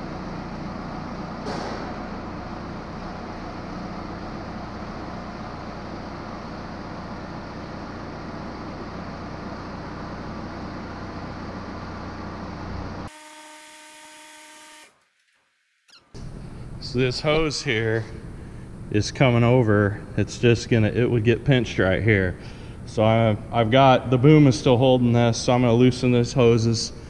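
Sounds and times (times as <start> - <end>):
diesel engine running: 0.0 - 13.1, 16.2 - 27.0.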